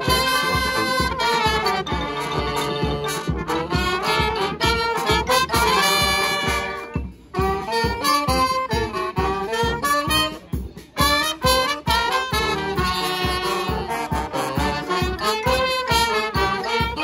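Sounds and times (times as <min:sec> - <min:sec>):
brass band playing: 0:00.0 - 0:17.0
drum kit beat: 0:00.0 - 0:17.0.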